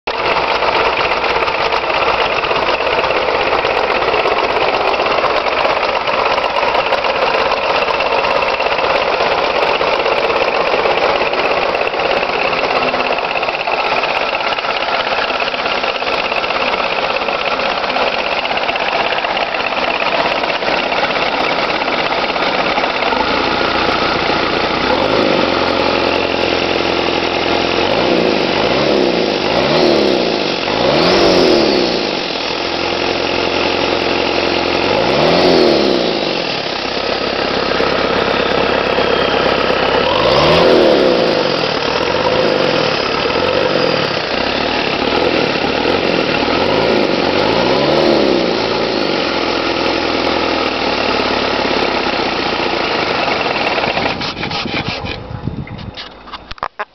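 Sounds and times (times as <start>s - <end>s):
diesel engine idling: 0.1s - 56.9s.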